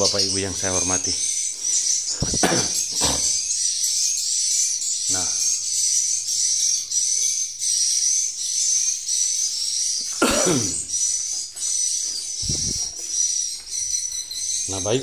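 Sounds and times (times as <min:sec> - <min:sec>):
swiftlets twittering: 0:00.0 - 0:15.0.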